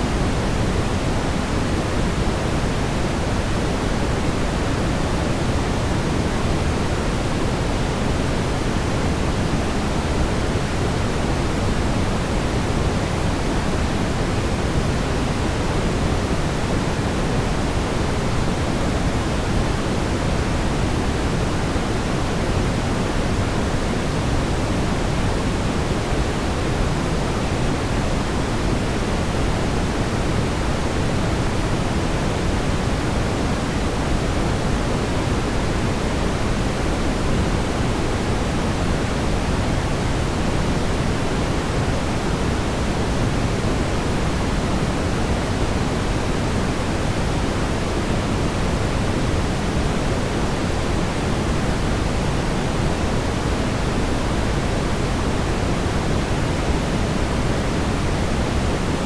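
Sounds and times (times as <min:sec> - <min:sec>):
brown noise rumbling hiss: 0:00.0 - 0:59.0.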